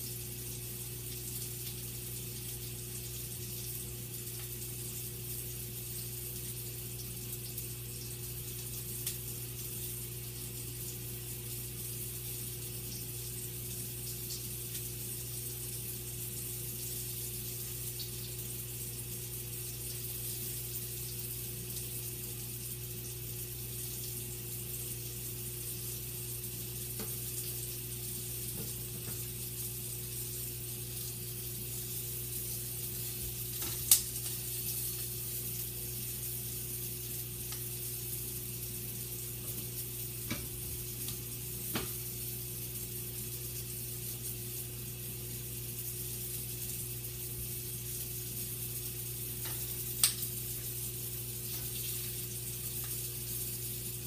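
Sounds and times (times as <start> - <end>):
sausage sizzling in frying pan: 0.0 - 54.0.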